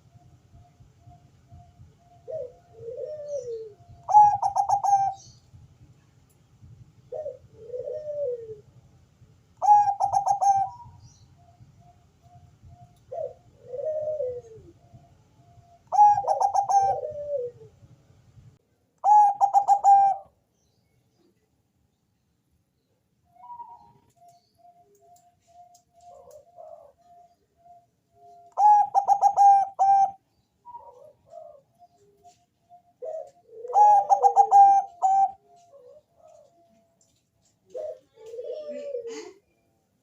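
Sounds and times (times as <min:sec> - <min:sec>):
dove cooing: 0:00.0 - 0:05.5, 0:07.0 - 0:08.8, 0:09.6 - 0:17.9, 0:19.0 - 0:20.4, 0:23.3 - 0:39.6.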